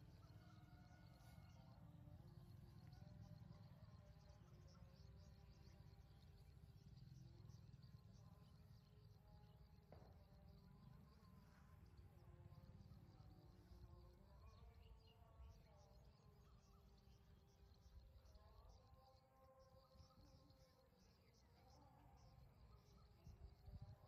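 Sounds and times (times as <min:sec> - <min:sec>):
insects chirping and buzzing: 0:00.0 - 0:24.0.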